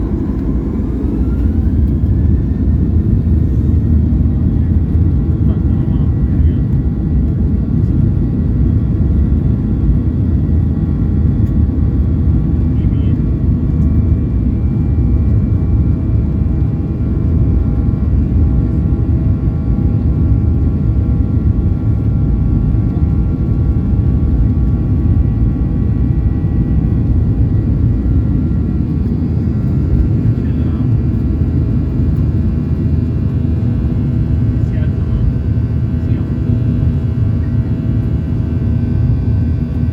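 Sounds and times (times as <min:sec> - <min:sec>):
jet engines at takeoff power: 0:00.0 - 0:39.9.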